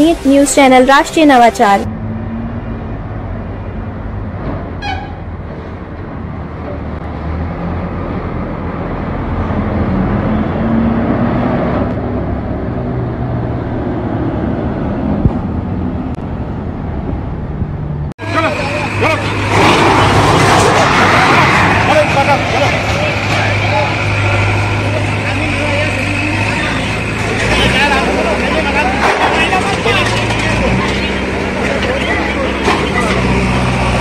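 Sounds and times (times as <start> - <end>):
heavy diesel vehicles rumbling: 0.0 - 34.0.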